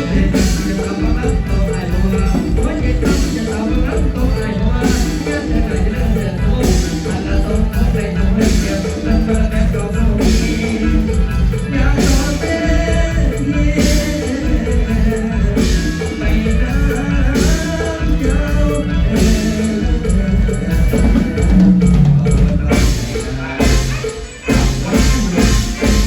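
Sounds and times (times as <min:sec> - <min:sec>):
band music: 0:00.0 - 0:26.0
drum kit steady beat: 0:00.0 - 0:26.0.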